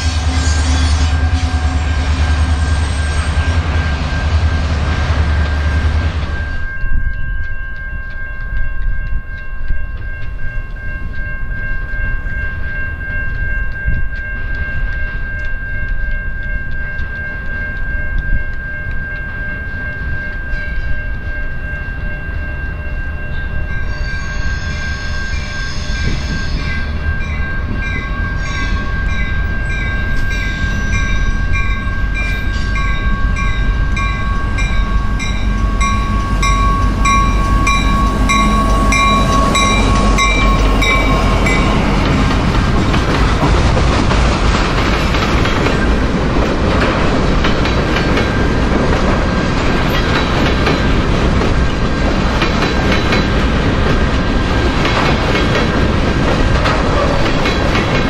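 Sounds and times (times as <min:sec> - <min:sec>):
train bell ringing: 0:00.0 - 0:43.8, 0:44.6 - 0:58.0
diesel locomotive rumble: 0:00.0 - 0:58.0
train wheels on rails: 0:00.0 - 0:58.0.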